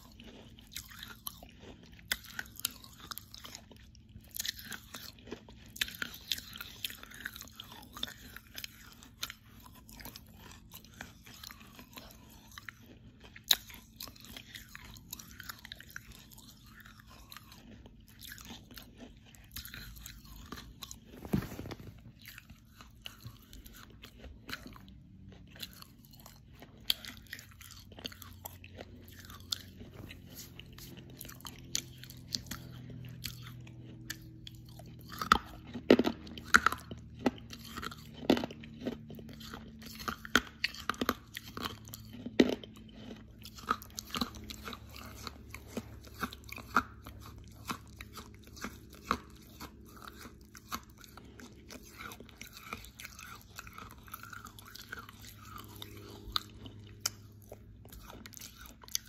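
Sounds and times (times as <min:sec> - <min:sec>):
clay cracking between teeth: 0:00.0 - 0:59.0
person chewing crunchy clay: 0:00.0 - 0:59.0.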